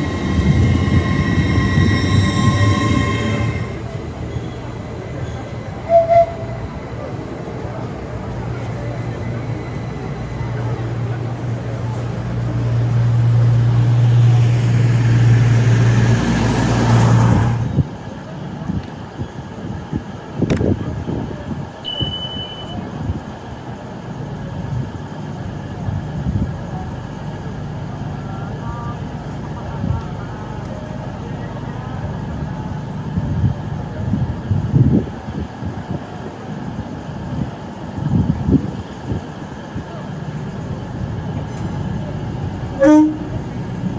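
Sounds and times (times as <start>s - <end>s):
train passing at speed: 0.0s - 21.9s, 22.8s - 43.9s.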